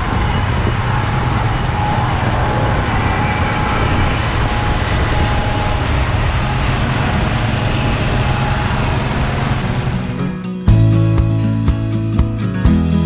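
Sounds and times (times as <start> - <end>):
baler mechanical din: 0.0 - 10.9
tractor diesel engine running: 0.0 - 13.0.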